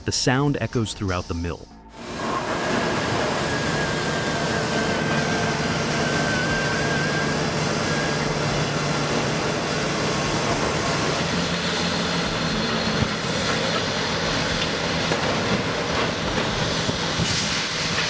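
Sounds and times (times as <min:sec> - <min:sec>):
log debarker machinery din: 0:00.1 - 0:18.0
low machine hum: 0:01.6 - 0:18.0.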